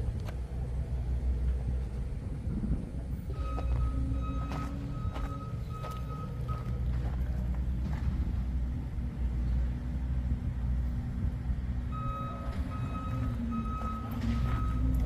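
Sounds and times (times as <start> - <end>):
engine deep rumble: 0.0 - 15.0.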